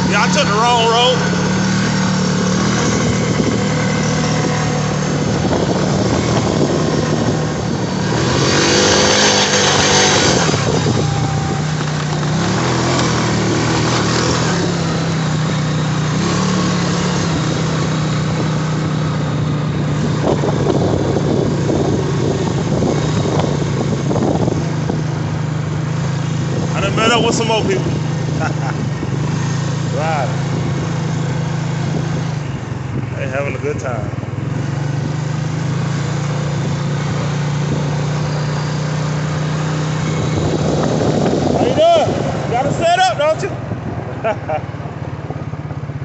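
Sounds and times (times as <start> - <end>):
atv engine running: 0.0 - 46.0.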